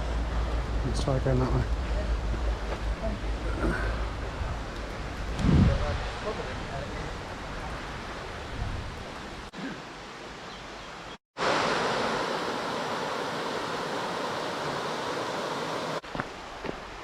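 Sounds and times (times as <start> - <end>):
river water rushing: 1.7 - 17.0.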